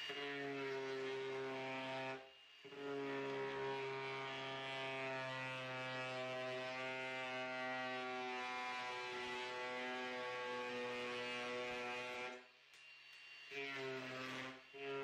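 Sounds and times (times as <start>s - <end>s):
angle grinder cutting wood: 0.0s - 12.4s, 13.5s - 15.0s.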